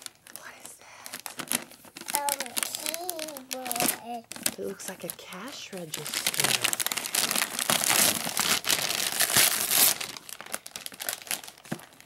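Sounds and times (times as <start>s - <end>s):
foil wrapping paper crinkling: 0.0s - 12.0s.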